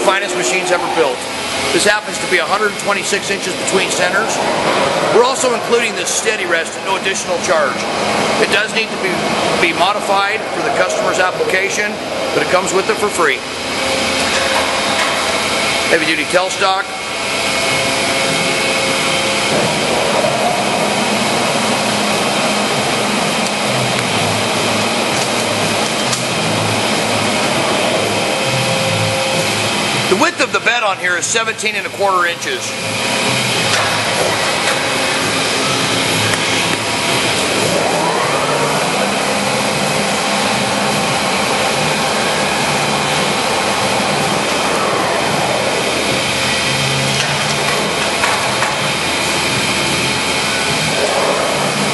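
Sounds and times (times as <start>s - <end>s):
lathe running: 0.0s - 51.9s
low rhythmic pulsing: 0.0s - 51.9s.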